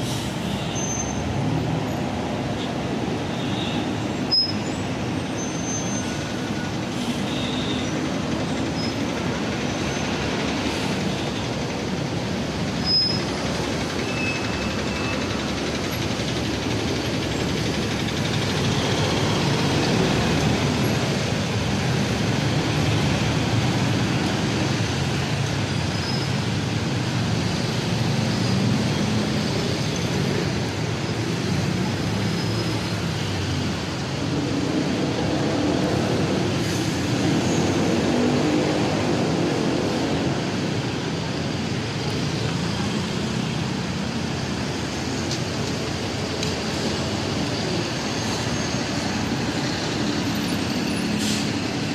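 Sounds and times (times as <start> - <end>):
congested road traffic: 0.0 - 51.9.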